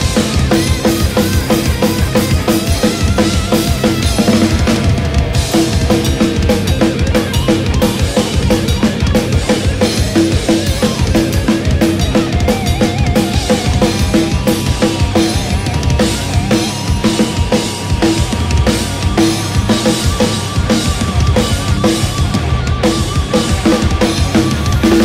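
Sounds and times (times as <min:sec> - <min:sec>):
rock song with guitar: 0:00.0 - 0:25.0.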